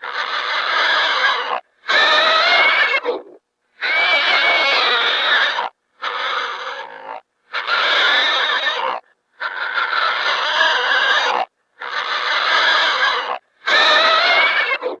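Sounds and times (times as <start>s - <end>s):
harsh wheezy squealing cries: 0.0s - 3.1s, 3.8s - 15.0s.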